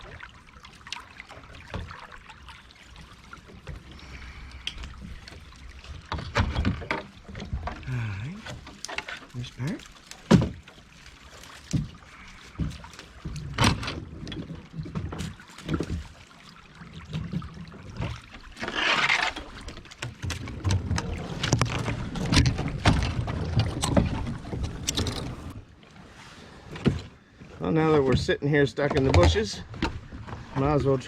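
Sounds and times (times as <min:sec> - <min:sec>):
branches scraping against kayak hull: 0:03.4 - 0:31.0.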